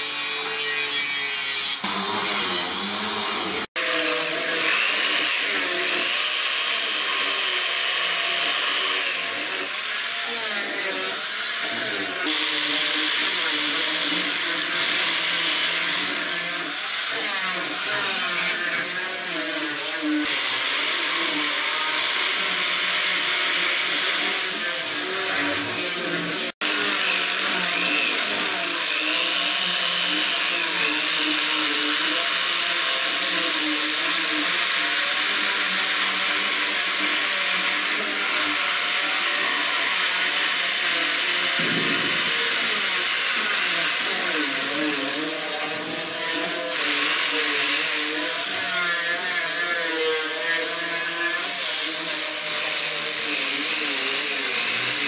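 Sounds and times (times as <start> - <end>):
electric jigsaw cutting wood: 0.0 - 55.0.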